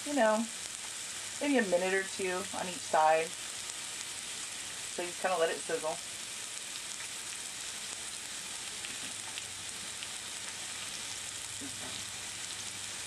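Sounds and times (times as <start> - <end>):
faint crackles: 0.0 - 13.0
fruit sizzling in a grill pan: 0.0 - 13.0.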